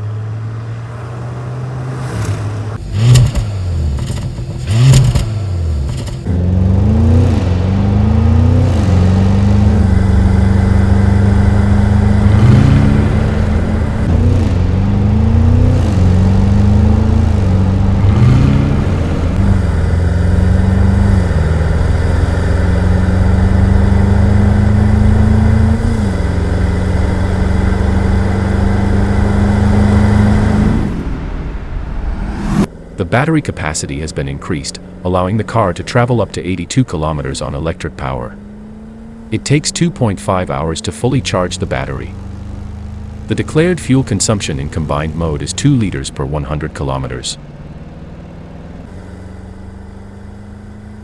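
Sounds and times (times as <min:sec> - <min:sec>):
car engine accelerating through gears: 0:00.0 - 0:51.0.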